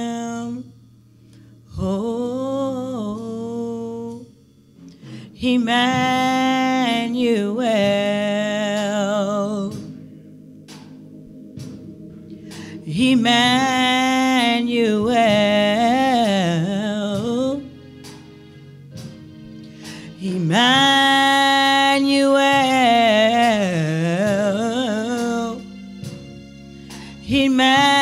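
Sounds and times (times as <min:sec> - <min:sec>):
sustained backing accompaniment: 0:00.0 - 0:28.0.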